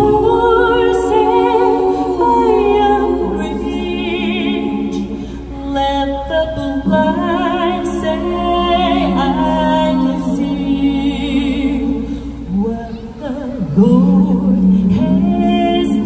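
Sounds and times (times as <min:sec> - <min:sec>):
group singing gospel in harmony: 0:00.0 - 0:16.0.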